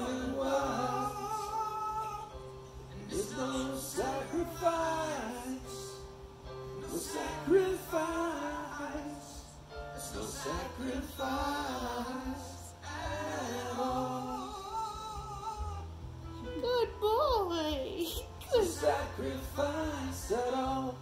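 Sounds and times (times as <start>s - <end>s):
man singing wordless melody: 0.0s - 6.1s, 6.8s - 16.1s, 18.4s - 21.0s.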